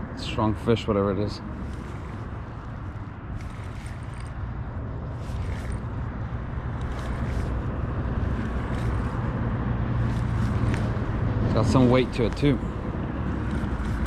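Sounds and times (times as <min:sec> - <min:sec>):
water moving along a kayak: 0:01.4 - 0:14.0.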